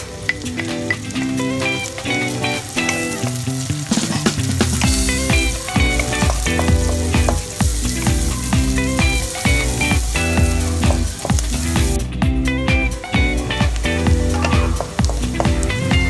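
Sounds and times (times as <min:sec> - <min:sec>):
background music with steady beat: 0:00.0 - 0:16.0
garlic and onion sizzling in butter: 0:00.0 - 0:16.0.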